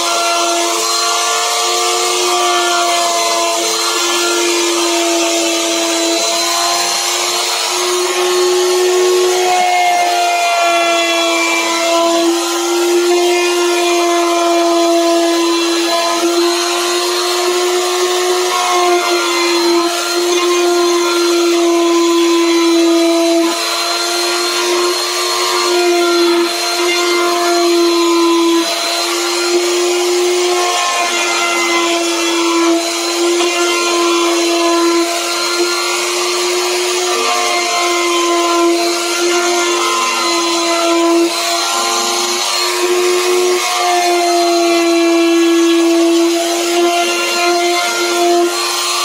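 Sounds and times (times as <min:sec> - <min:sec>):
electric wood router whining: 0:00.0 - 0:49.0
router bit cutting wood: 0:00.0 - 0:49.0.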